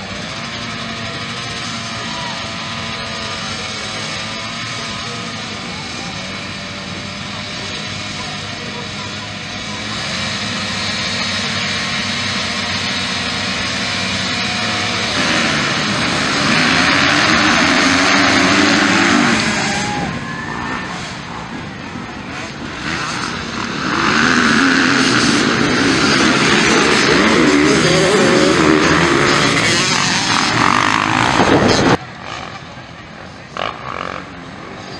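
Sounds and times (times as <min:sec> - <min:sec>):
motorbike engines revving: 0:00.0 - 0:34.9.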